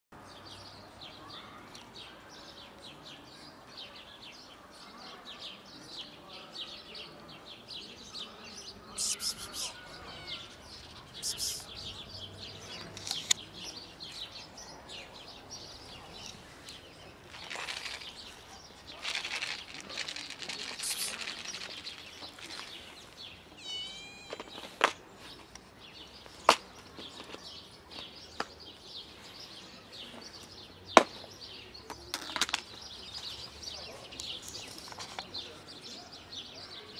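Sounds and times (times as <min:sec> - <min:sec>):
small birds chirping: 0:00.2 - 0:36.9.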